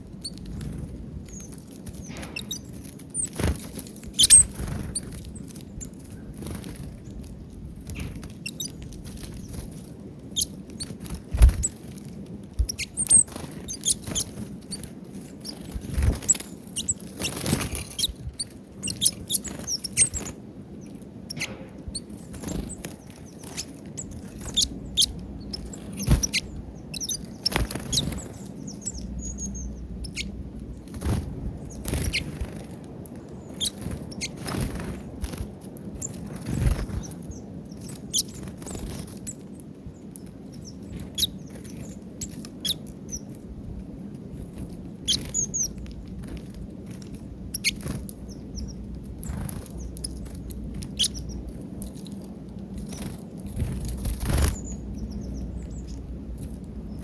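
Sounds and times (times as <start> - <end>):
birds pecking at a feeder: 0.1 - 57.0.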